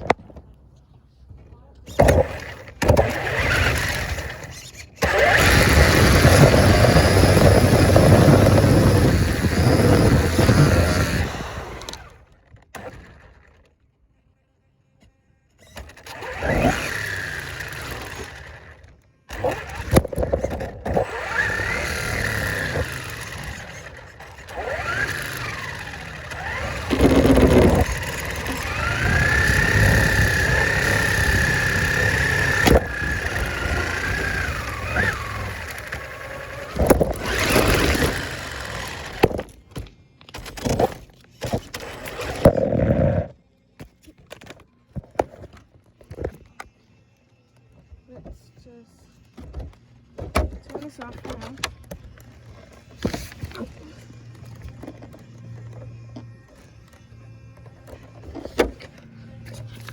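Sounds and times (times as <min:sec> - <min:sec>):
radio-controlled car motor whining: 0:01.9 - 0:13.7, 0:15.0 - 0:39.5, 0:40.4 - 0:43.4, 0:50.8 - 0:59.9.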